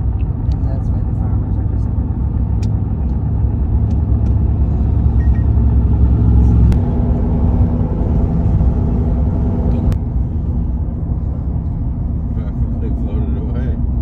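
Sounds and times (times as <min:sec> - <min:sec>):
car driving rumble: 0:00.0 - 0:14.0.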